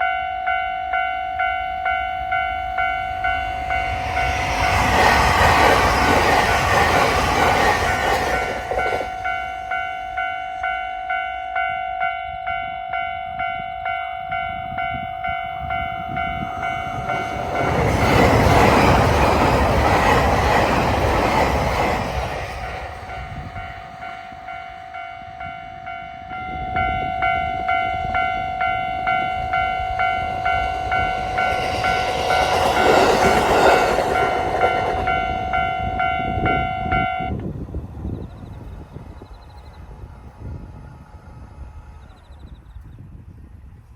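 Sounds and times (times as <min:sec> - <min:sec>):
level-crossing warning bell: 0:00.0 - 0:37.5
train rumbling over crossing: 0:00.0 - 0:43.9.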